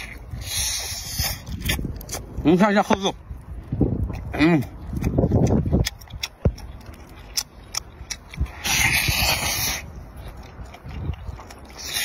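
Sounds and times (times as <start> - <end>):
chewing mouth sounds: 0.0 - 12.0.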